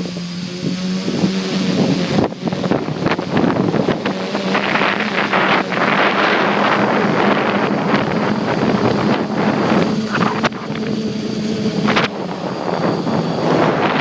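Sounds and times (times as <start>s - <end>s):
drone propellers buzzing: 0.0s - 14.0s
wind buffeting microphone: 0.0s - 14.0s.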